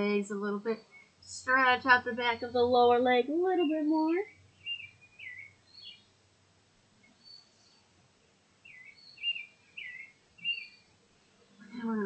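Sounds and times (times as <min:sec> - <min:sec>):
songbird chirping: 0:00.0 - 0:06.2, 0:07.0 - 0:08.0, 0:08.6 - 0:12.0.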